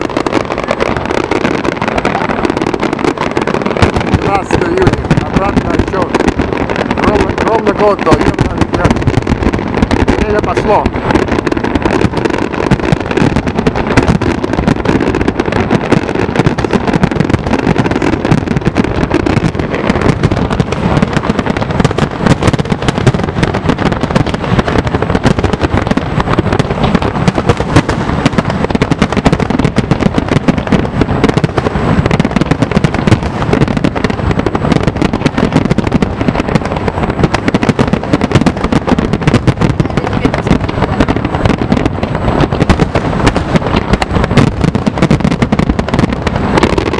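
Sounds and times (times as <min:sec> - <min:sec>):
fireworks bursting: 0:00.0 - 0:46.9.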